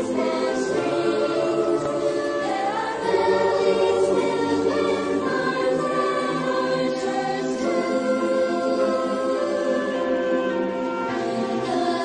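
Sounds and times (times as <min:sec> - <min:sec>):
choir singing held chords: 0:00.0 - 0:12.0.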